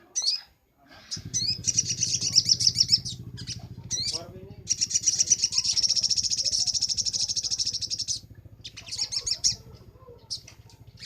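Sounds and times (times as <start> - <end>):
bird chirps: 0.0 - 11.0
sunbird trilling: 0.0 - 11.0.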